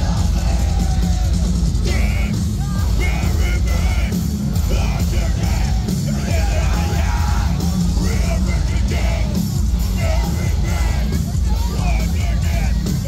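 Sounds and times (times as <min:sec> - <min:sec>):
metal band playing live: 0:00.0 - 0:13.0
yelled vocals: 0:00.0 - 0:13.0.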